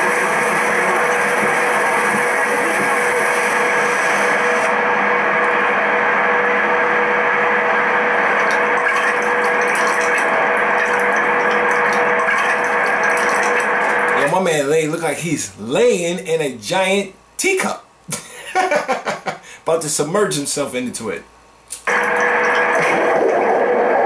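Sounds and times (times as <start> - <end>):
faint held hum: 0.0 - 24.0
steady ambient noise: 0.0 - 24.0.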